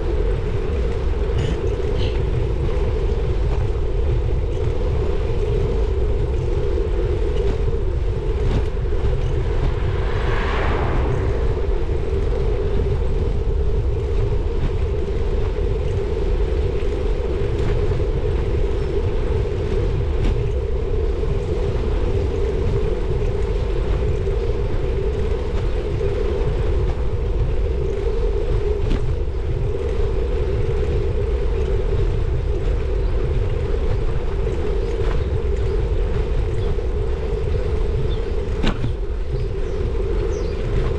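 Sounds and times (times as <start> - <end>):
steady drone: 0.0 - 40.9
wind buffeting microphone: 0.0 - 40.9.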